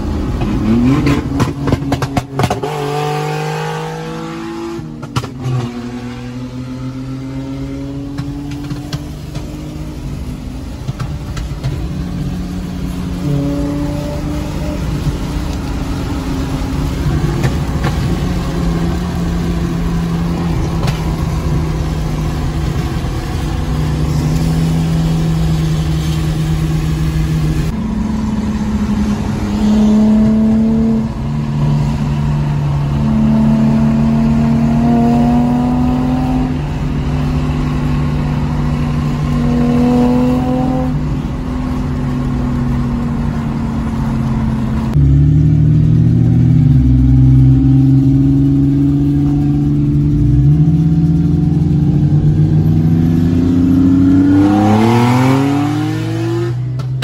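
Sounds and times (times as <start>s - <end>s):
car engine accelerating: 0.0s - 57.0s
road and tyre noise: 0.0s - 57.0s.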